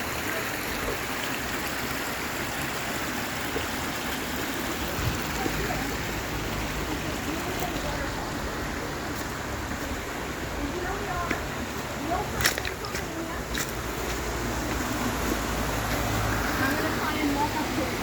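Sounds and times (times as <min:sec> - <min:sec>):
stream rushing water: 0:00.0 - 0:18.0.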